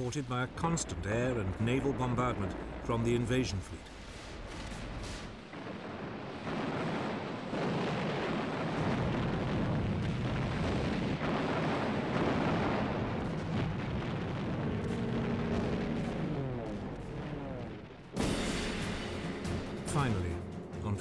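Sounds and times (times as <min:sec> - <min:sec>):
naval guns firing: 0:00.4 - 0:20.3.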